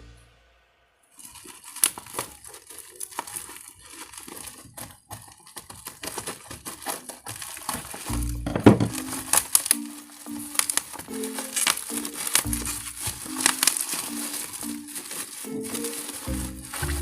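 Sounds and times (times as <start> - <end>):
packaging crinkling: 1.1 - 17.0.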